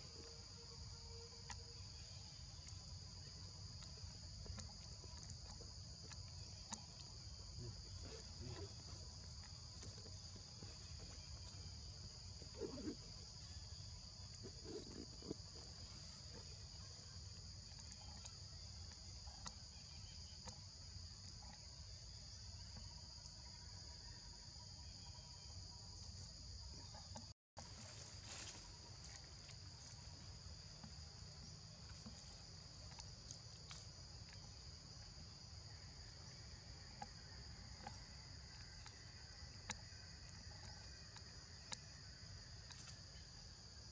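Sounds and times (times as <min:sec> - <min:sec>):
faint high-pitched insect drone: 0:00.0 - 0:43.9.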